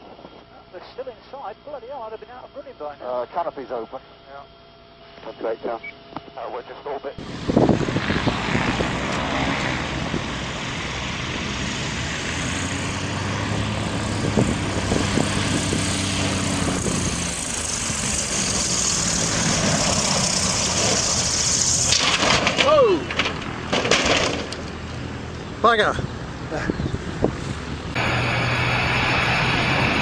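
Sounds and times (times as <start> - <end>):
propeller plane engine running: 5.1 - 30.0.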